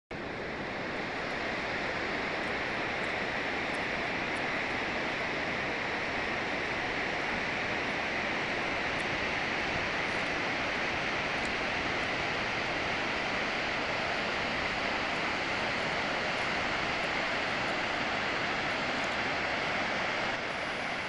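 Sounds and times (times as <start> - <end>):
water rushing down spillway: 0.2 - 21.0.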